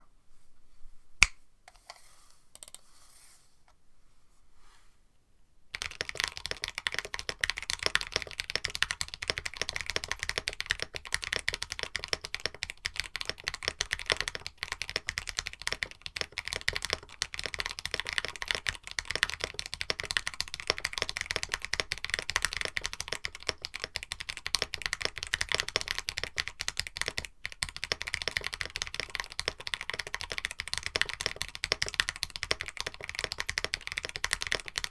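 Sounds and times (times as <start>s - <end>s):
fast typing on mechanical keyboard: 5.8s - 34.9s.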